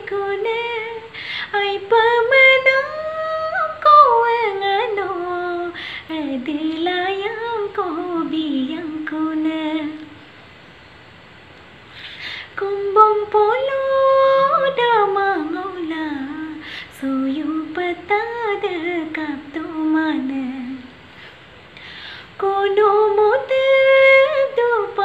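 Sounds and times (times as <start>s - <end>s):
woman singing unaccompanied: 0.0s - 10.2s, 12.4s - 21.0s, 22.2s - 25.0s.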